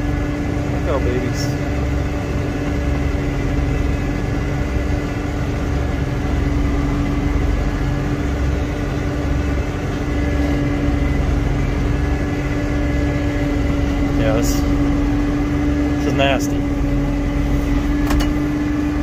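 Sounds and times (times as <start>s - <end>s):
tractor engine running inside cab: 0.0s - 19.0s.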